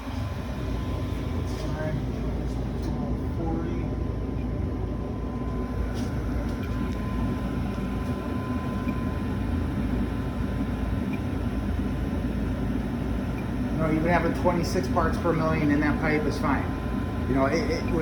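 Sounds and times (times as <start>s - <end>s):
gas furnace rumbling: 0.0s - 18.0s.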